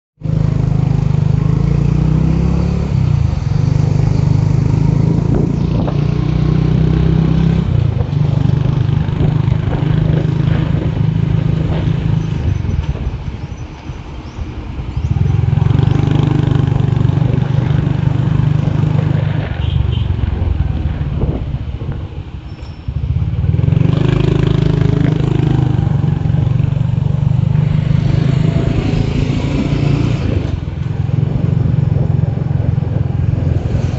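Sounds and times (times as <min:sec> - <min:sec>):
road noise: 0:00.2 - 0:33.9.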